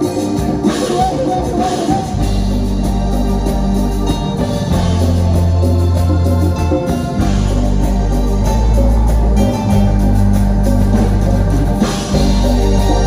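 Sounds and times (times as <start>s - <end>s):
deep bass notes: 0.0s - 13.0s
sustained keyboard chords: 0.0s - 13.0s.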